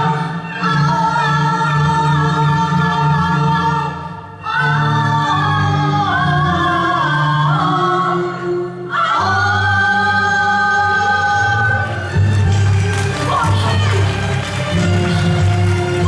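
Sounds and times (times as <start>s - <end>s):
opera singing with wavering notes: 0.0s - 16.0s.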